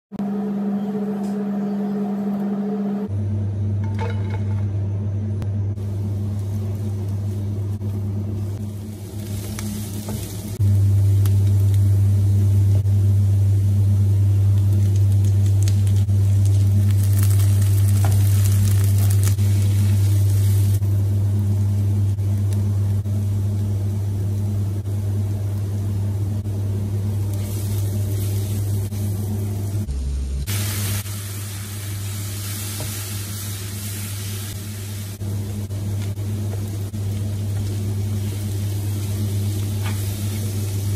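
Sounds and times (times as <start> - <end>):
steady low hum: 0.1 - 40.9
onions sizzling in oil: 5.8 - 40.9.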